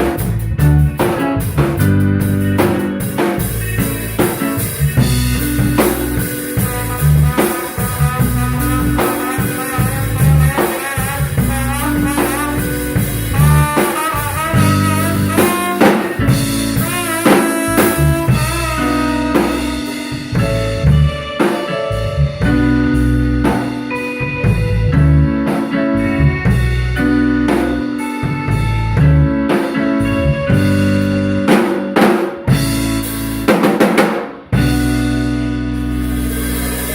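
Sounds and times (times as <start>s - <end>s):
bending melodic lead line: 0.0s - 33.8s, 34.4s - 36.9s
bass line: 0.0s - 36.9s
drum kit beat: 0.0s - 36.9s.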